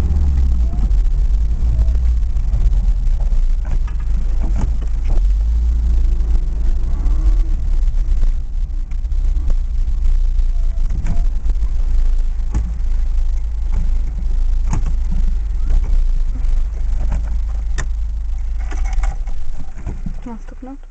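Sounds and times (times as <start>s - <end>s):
car engine and road noise rumble: 0.0s - 20.9s.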